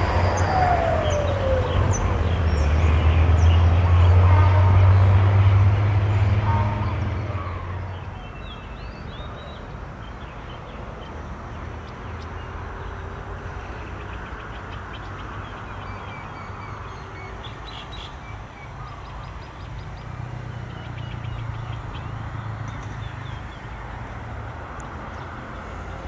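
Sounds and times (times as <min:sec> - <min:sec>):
birds chirping: 0:00.0 - 0:24.0
distant engines humming: 0:00.0 - 0:26.0.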